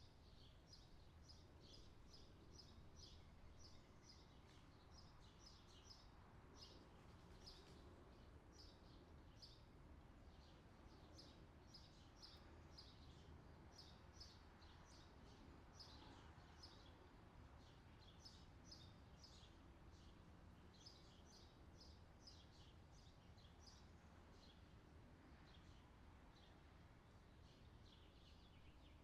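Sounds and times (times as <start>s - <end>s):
small birds chirping: 0.0s - 9.7s, 10.3s - 29.0s
low steady background noise: 0.0s - 29.0s.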